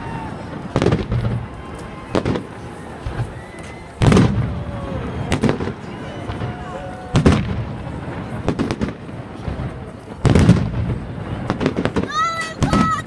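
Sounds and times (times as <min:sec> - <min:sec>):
firework shells booming: 0:00.4 - 0:13.0.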